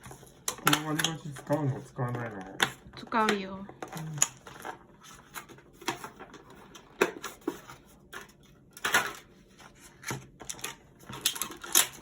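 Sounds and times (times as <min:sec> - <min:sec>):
plastic packs clicking and rustling: 0:00.0 - 0:12.0.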